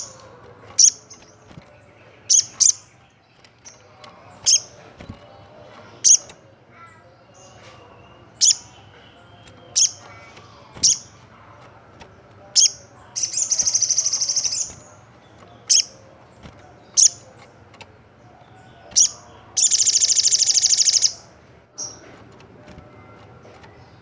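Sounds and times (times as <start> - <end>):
bird chirping: 0.0 - 22.2.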